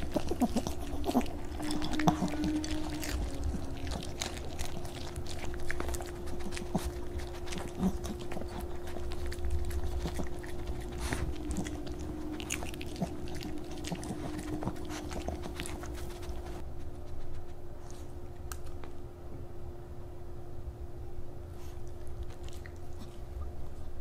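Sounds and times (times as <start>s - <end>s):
dog chewing crunchy cookie: 0.0s - 19.0s, 21.6s - 24.0s
faint hum: 0.0s - 24.0s.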